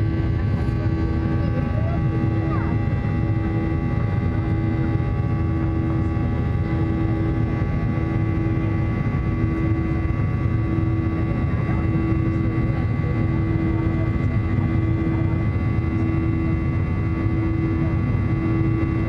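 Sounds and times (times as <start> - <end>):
jet engines low rush with whine: 0.0 - 19.0.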